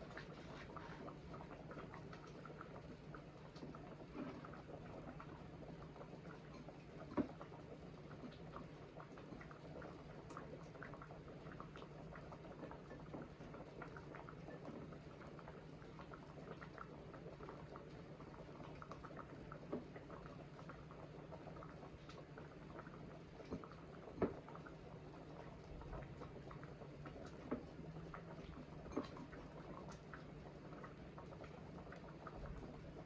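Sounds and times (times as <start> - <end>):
pot simmering and bubbling: 0.0 - 33.0.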